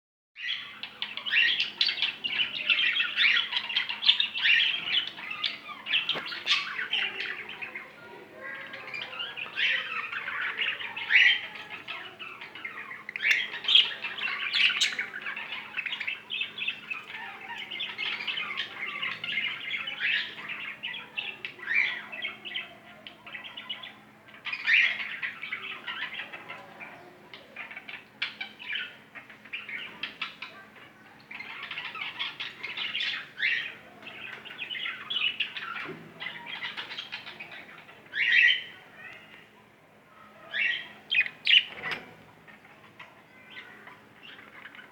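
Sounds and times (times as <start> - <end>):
lovebirds chirping and squawking: 0.4 - 44.9.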